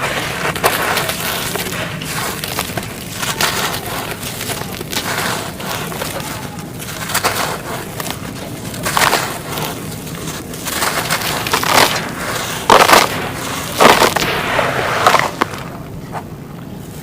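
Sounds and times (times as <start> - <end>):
clay crumbling by hand: 0.0 - 16.4.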